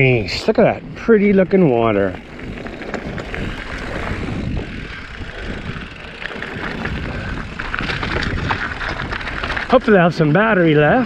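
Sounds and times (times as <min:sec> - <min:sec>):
bike rattling: 0:00.0 - 0:11.0
tyres rolling over dirt trail: 0:00.0 - 0:11.0
wind buffeting microphone: 0:00.0 - 0:11.0.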